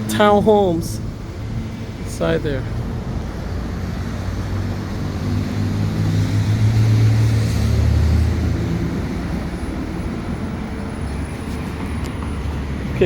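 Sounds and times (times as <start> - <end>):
vehicle passing by: 1.0 - 13.0.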